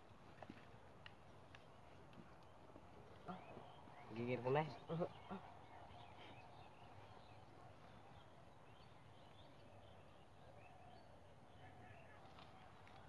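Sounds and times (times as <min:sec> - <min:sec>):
distant bird calls: 0:00.2 - 0:13.0.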